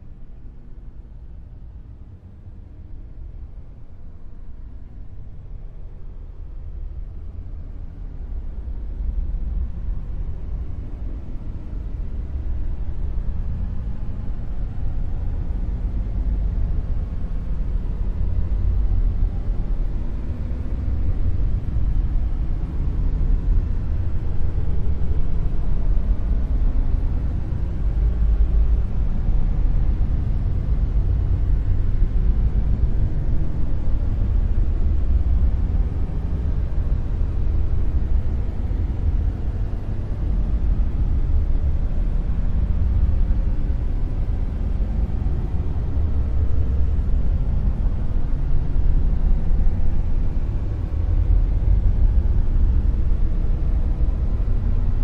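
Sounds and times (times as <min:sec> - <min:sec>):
deep rumbling noise: 0:04.6 - 0:55.0.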